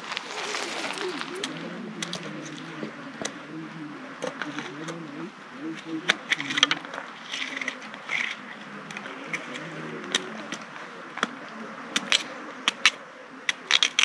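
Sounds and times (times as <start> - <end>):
faint voices talking: 0.0 - 14.0.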